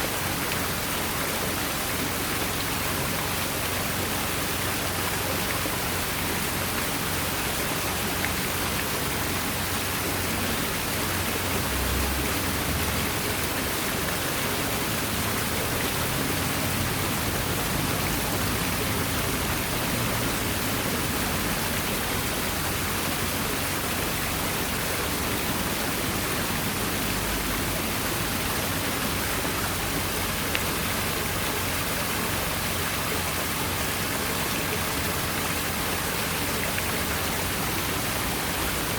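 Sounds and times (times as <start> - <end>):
waterfall splashing: 0.0 - 38.9.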